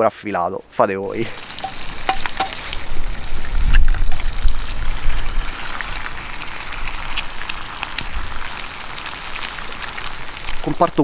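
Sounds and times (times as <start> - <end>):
bacon sizzling and crackling: 1.1 - 11.0
egg cracking into pan: 1.4 - 10.7.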